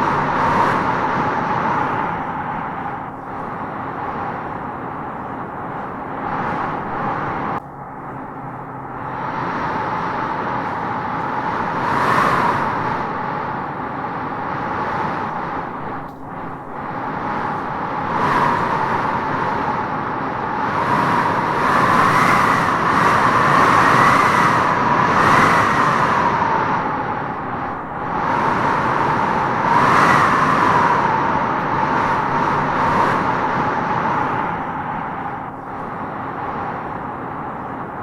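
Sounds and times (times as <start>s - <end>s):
howling wind through trees: 0.0s - 38.0s.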